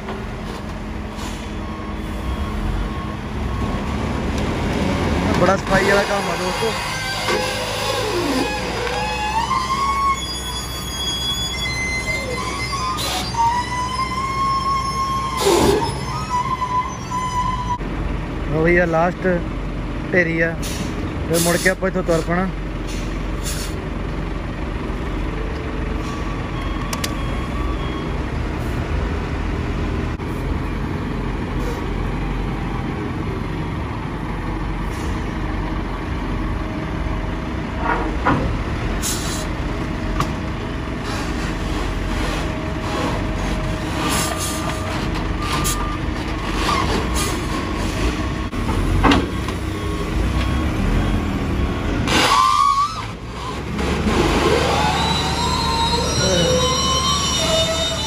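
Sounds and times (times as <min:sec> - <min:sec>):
forklift engines running: 0:00.0 - 0:58.0.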